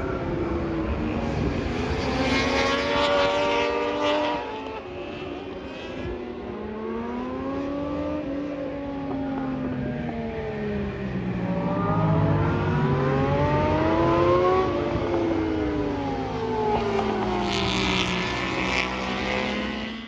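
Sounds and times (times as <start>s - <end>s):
motorbike engines revving past: 0.0s - 20.0s.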